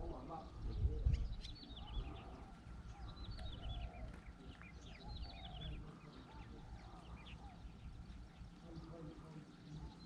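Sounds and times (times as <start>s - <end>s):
lower bird calls: 0.5s - 10.0s.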